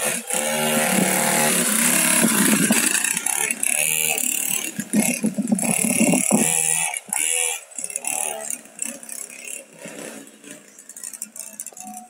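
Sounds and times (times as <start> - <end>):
mini dirt bike engine buzzing: 0.0 - 12.0.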